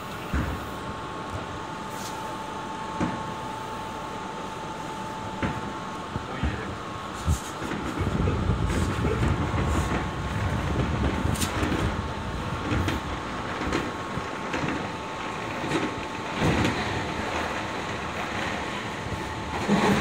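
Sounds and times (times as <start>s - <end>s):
train rumble and wheel noise: 0.0s - 20.0s.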